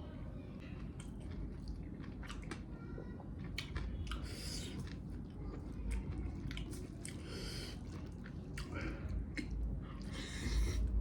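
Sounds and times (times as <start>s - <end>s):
person chewing meat: 0.8s - 2.7s, 3.3s - 11.0s.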